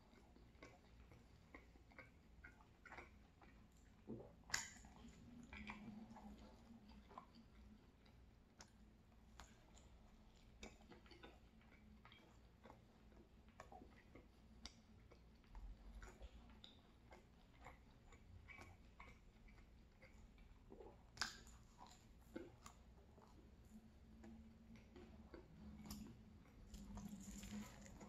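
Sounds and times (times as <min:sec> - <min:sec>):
quiet chewing with mouth clicks: 0:00.0 - 0:28.0.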